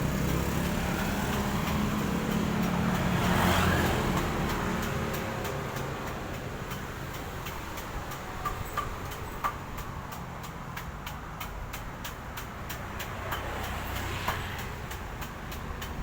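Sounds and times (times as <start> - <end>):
vehicles passing on a street: 0.0 - 16.0.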